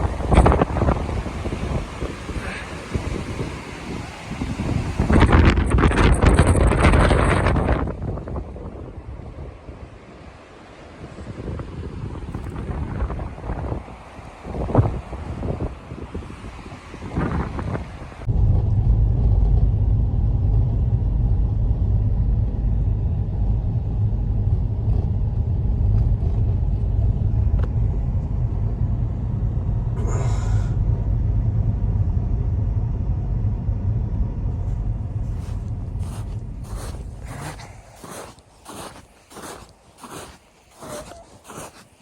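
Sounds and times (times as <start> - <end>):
steady low rumble: 0.0 - 10.0, 18.2 - 42.0.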